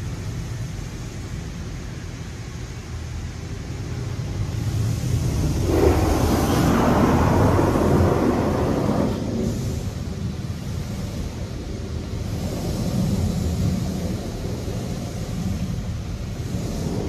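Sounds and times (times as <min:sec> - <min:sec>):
steady low rumble: 0:00.0 - 0:17.0
water spray on car body: 0:00.0 - 0:17.0.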